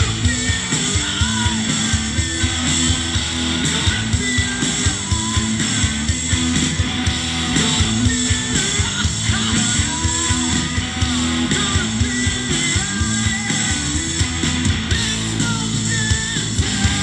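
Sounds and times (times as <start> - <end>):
gliding guitar line: 0.0 - 17.0
live rock band playing: 0.0 - 17.0.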